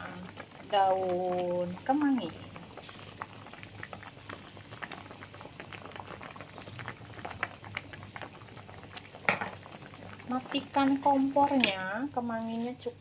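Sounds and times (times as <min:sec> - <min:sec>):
soup boiling and bubbling: 0:00.0 - 0:13.0.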